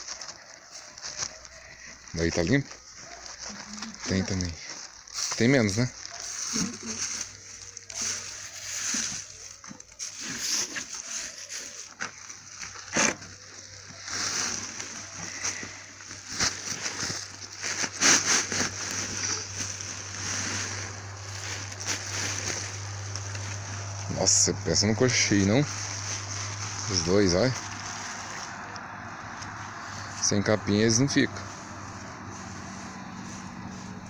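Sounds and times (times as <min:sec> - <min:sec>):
chopped grass pouring rustle: 0:00.0 - 0:34.0.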